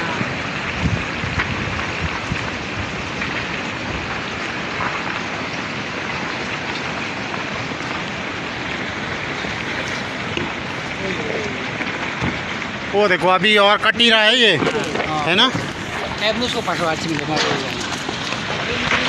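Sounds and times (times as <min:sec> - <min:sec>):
rock and gravel pouring down: 0:00.0 - 0:19.0.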